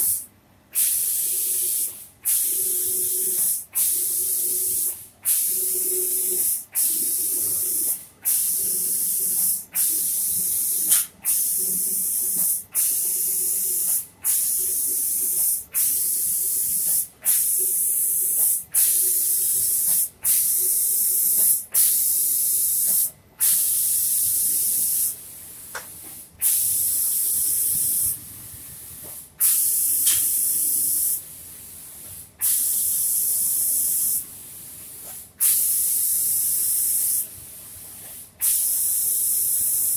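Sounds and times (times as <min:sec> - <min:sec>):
spray gun hissing: 0:00.0 - 0:00.2, 0:00.8 - 0:25.7, 0:26.4 - 0:39.9.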